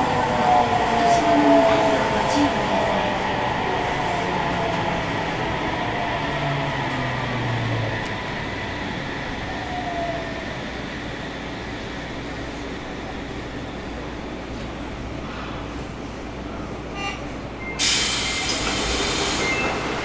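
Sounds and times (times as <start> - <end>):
train rolling noise: 0.0 - 20.0.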